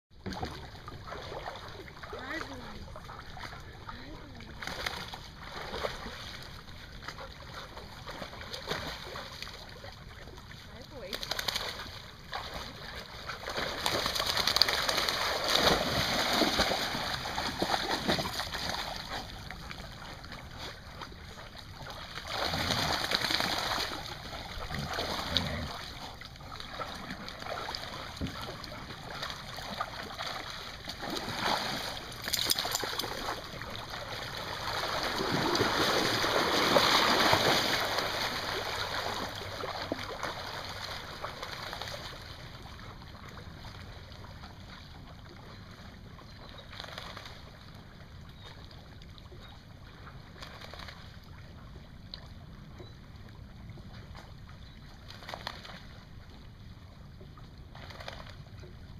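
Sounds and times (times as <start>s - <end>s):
water splashing and sloshing: 0.1s - 58.9s.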